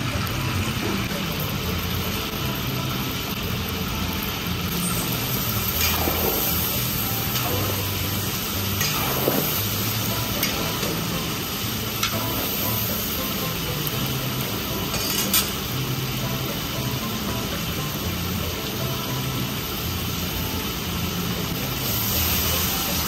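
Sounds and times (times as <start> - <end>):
meat sizzling in a pot: 0.0 - 23.0.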